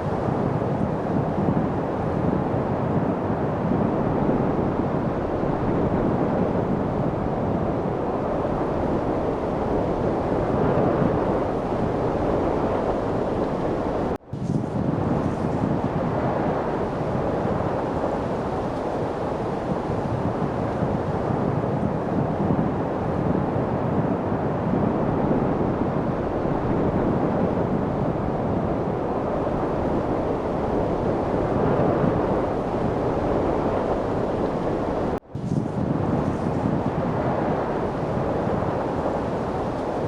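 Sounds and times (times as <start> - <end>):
rushing wind: 0.0 - 40.0.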